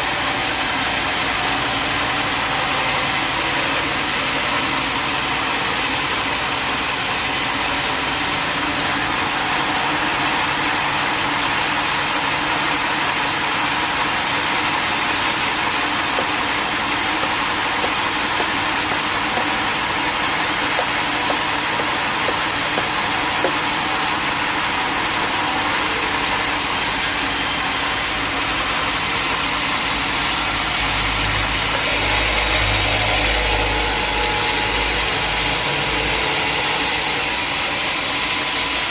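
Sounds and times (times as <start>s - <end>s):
sawmill machinery hum: 0.0s - 38.9s.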